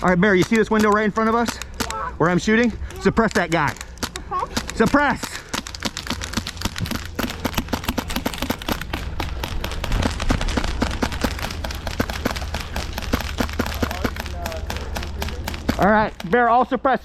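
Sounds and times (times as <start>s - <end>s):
airsoft guns firing rapidly: 0.0s - 16.8s.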